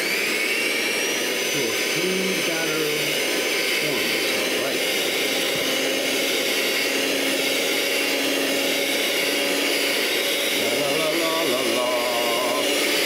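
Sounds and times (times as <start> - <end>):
electric mixer whisking batter: 0.0 - 13.0.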